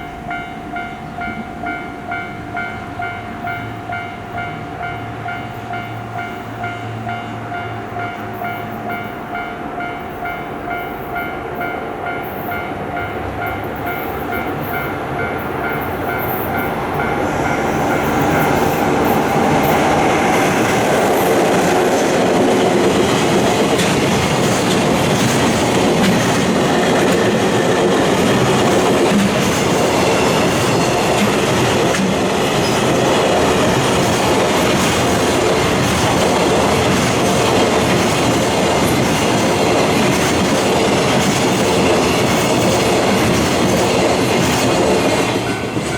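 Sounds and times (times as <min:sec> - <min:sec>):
level-crossing warning bell ringing: 0:00.0 - 0:45.9
train passing with wheel clatter: 0:00.0 - 0:45.9.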